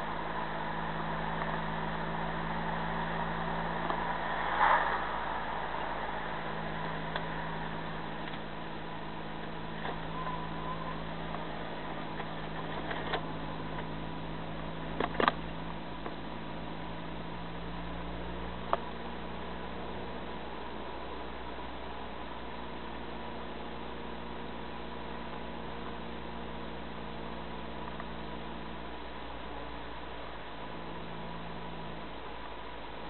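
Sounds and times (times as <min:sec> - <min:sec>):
car cabin engine drone: 0:00.0 - 0:33.0.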